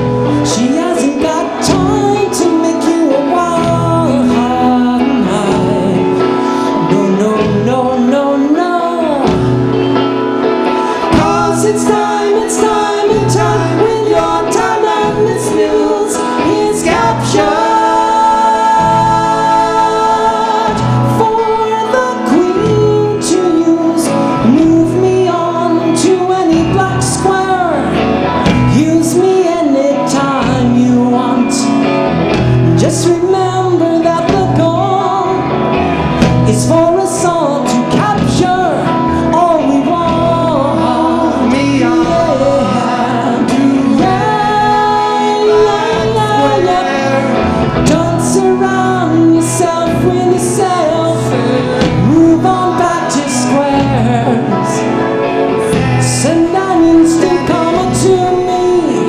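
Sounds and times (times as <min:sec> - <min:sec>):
live soul-funk band: 0:00.0 - 0:59.0
male and female voices singing: 0:00.0 - 0:59.0.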